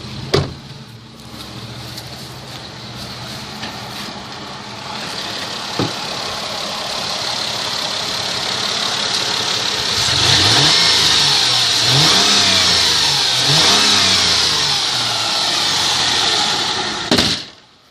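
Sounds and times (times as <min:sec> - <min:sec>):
car engine idling and revving: 0:00.0 - 0:17.8
high whine under vehicle: 0:00.0 - 0:17.9.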